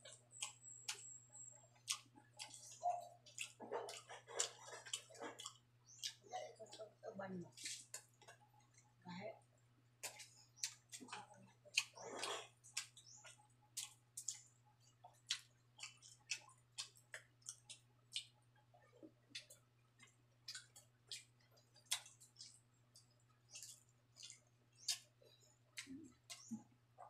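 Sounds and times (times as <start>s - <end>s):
person chewing with wet smacks: 0.0s - 9.0s, 9.9s - 27.0s.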